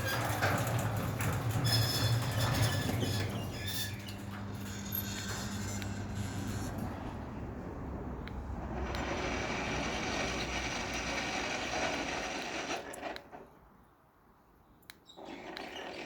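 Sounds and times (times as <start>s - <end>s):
garage door opener running: 0.0s - 13.3s.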